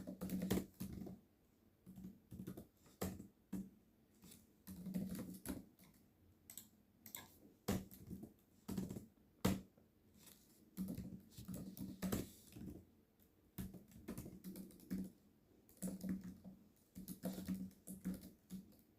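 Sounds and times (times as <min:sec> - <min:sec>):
typing on keyboard: 0:00.0 - 0:01.2, 0:01.8 - 0:03.7, 0:04.6 - 0:09.6, 0:10.8 - 0:12.8, 0:13.6 - 0:18.9.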